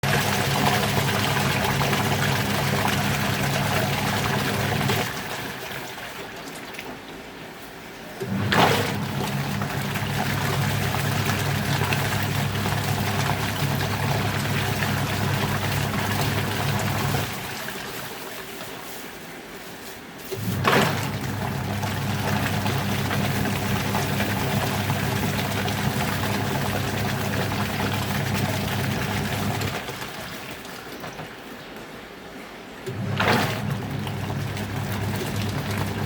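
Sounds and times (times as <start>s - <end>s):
washing machine running: 0.0s - 7.1s, 8.0s - 19.0s, 20.2s - 36.0s.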